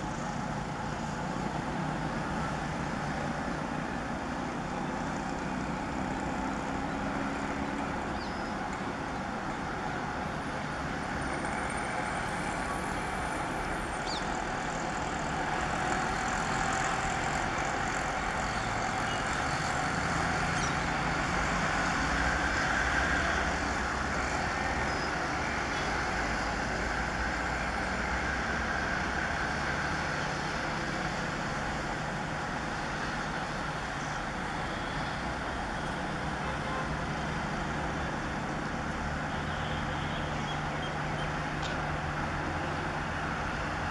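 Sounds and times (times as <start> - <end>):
diesel locomotive engine hum: 0.0 - 43.9.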